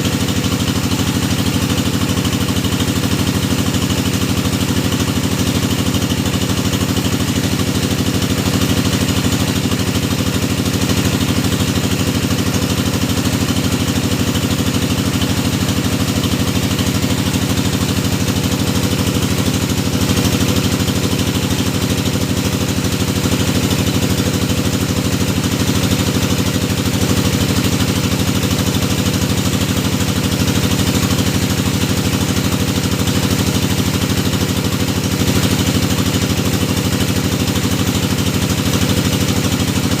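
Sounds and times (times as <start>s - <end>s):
drilling machine engine running: 0.0s - 40.0s.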